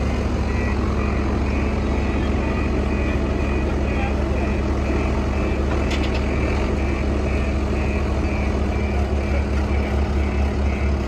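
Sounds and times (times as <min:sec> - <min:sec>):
diesel engine running: 0:00.0 - 0:11.0
reversing alarm beeping: 0:00.0 - 0:11.0.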